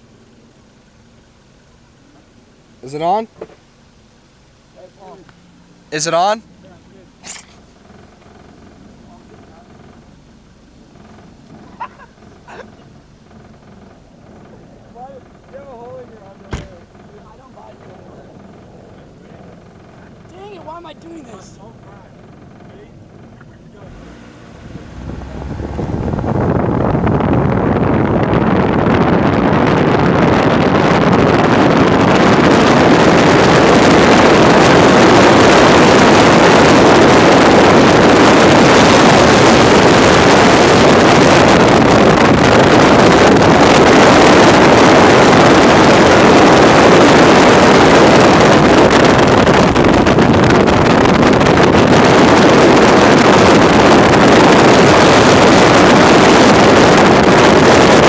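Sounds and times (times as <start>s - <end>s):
wind rushing over microphone: 4.9s - 58.0s.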